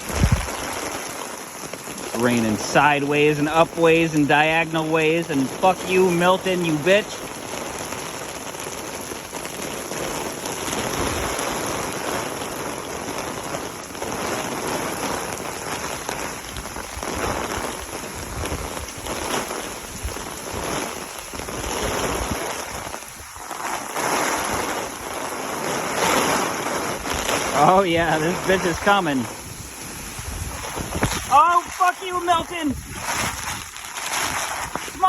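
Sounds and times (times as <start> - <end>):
wind-driven heavy rain: 0.0 - 35.0.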